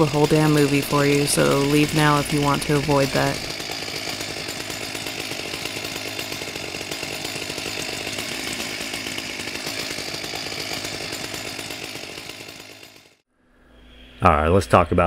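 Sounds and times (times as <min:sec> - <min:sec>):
chainsaw running: 0:00.0 - 0:13.2.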